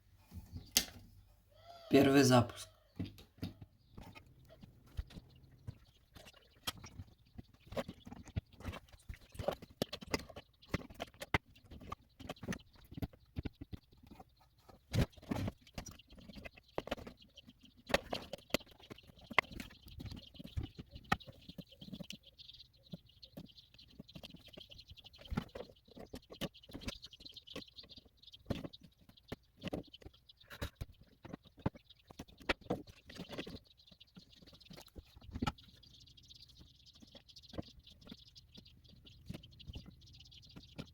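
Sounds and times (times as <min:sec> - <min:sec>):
amplifier crackling and popping: 0:00.0 - 0:01.1, 0:03.0 - 0:40.9.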